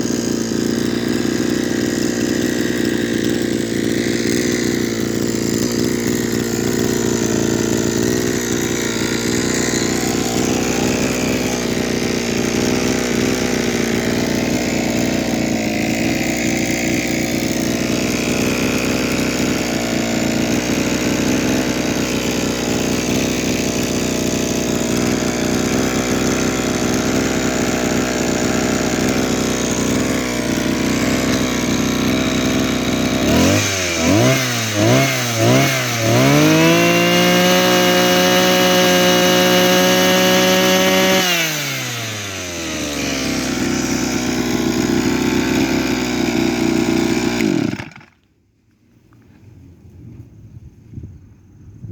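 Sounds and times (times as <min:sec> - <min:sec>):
brush cutter engine idling: 0:00.0 - 0:48.3.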